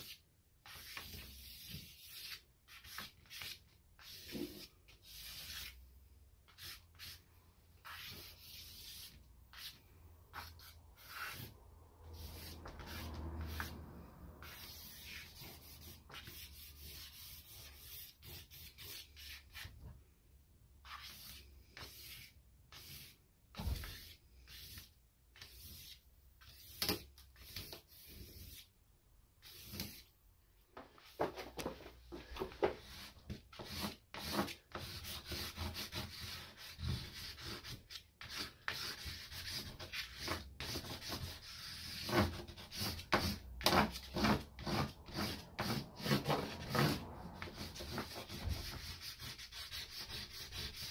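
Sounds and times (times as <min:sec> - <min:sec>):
charcoal scratching on paper: 0:00.0 - 0:05.8, 0:06.5 - 0:07.2, 0:07.8 - 0:13.8, 0:14.4 - 0:19.8, 0:20.8 - 0:28.7, 0:29.4 - 0:30.1, 0:32.7 - 0:50.9.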